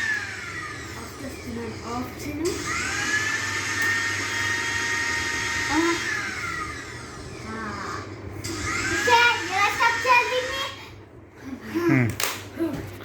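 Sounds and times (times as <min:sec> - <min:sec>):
mixer grinder motor whining: 0:00.0 - 0:11.6.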